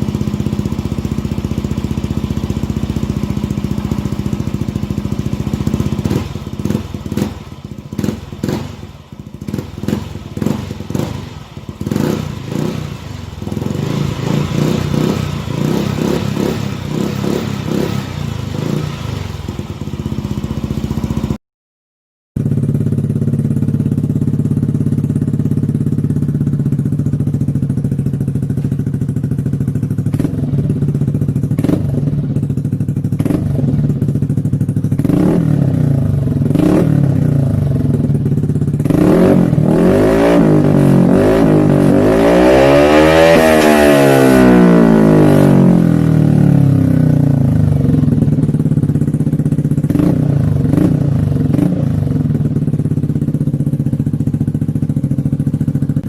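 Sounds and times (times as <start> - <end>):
scooter engine idling and revving: 0.0 - 21.4, 22.4 - 56.0.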